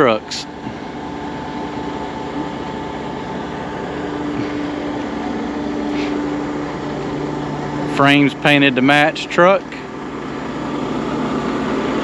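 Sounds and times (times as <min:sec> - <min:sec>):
diesel engine running: 0:00.0 - 0:12.0
steady whine: 0:00.0 - 0:12.0.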